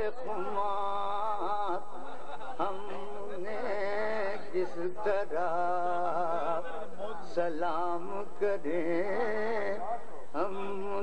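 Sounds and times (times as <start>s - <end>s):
man chanting poetry: 0.0s - 1.9s, 2.6s - 11.0s.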